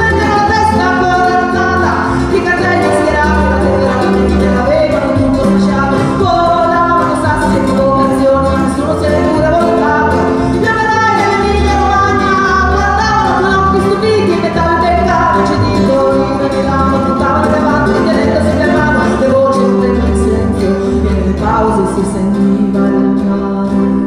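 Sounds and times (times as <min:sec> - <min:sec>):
double bass notes: 0:00.0 - 0:24.0
guitar: 0:00.0 - 0:24.0
woman singing: 0:00.0 - 0:24.0.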